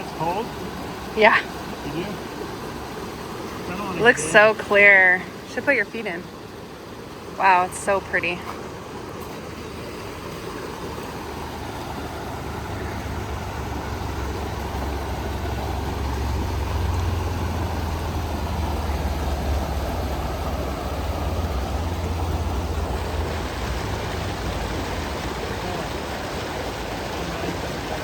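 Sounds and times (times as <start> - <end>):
creek water rushing: 0.0 - 28.0.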